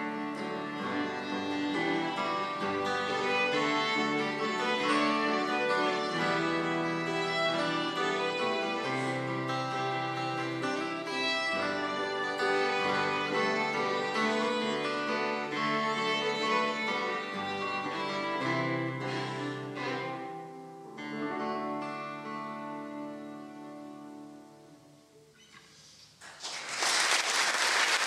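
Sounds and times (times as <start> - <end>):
acoustic guitar: 0.0 - 26.2
fiddles: 0.0 - 26.2.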